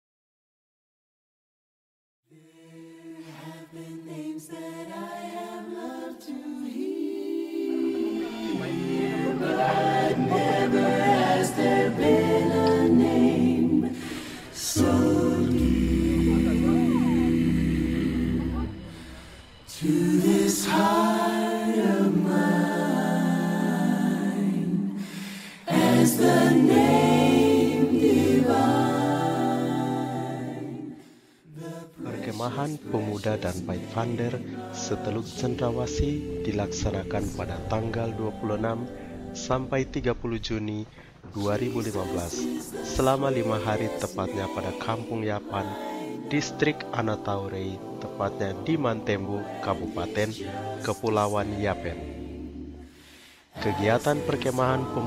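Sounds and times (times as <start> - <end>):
a cappella choir singing: 2.3 - 55.0.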